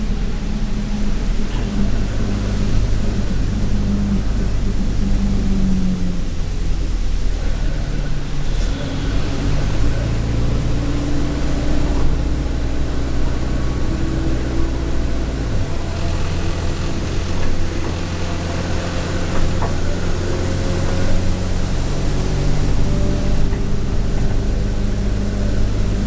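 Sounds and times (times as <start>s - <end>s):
bus diesel engine pulling: 0.0s - 26.0s
high turbo whine: 0.0s - 26.0s.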